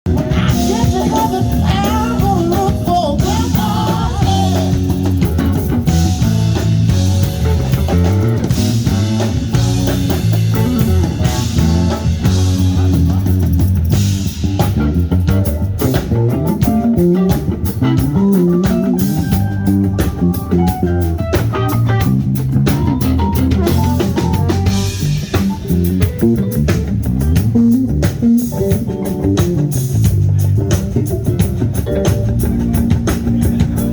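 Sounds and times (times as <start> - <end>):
bass guitar: 0.0 - 33.9
drum kit beat: 0.0 - 33.9
electric guitar: 0.1 - 33.9.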